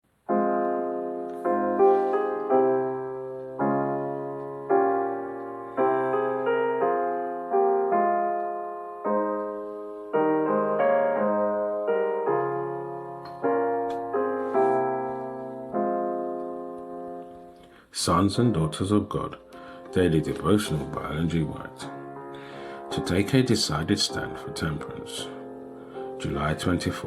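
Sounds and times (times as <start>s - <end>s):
slow piano chords: 0.1s - 27.0s.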